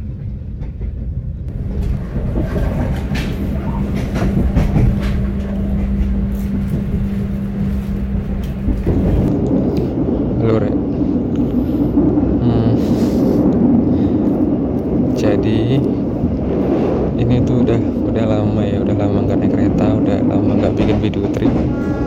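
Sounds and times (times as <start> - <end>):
steady low hum: 0.0 - 22.0
train running rumble: 0.0 - 22.0.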